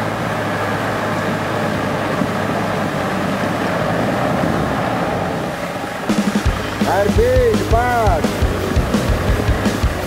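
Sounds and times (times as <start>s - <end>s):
vehicle engine running at low revs: 0.0s - 10.0s.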